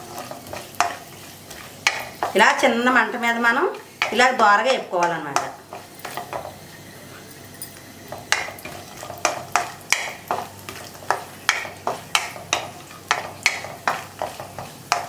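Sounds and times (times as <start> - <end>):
faint frying sizzle: 0.0 - 15.0.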